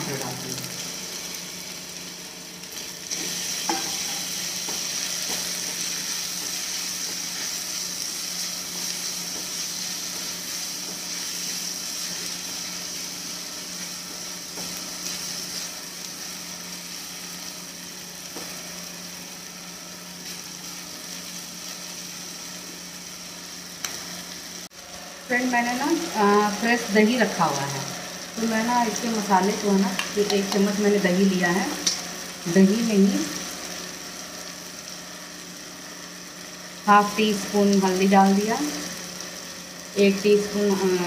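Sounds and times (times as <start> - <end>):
vegetables sizzling in hot oil: 0.0 - 41.0.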